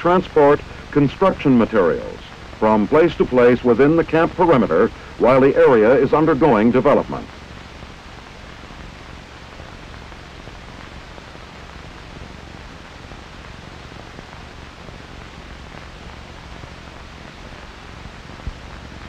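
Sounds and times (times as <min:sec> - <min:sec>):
faint low hum: 0:00.0 - 0:19.0
steady hiss: 0:00.0 - 0:19.0.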